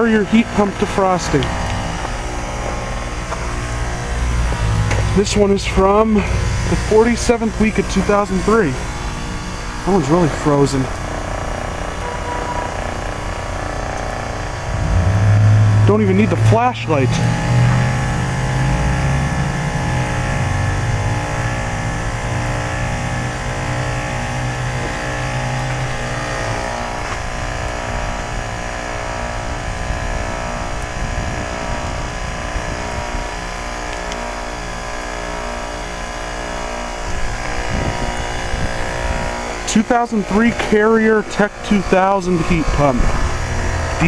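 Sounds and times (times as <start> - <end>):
compressor hum: 0.0 - 44.0
deep low drone: 0.0 - 44.0.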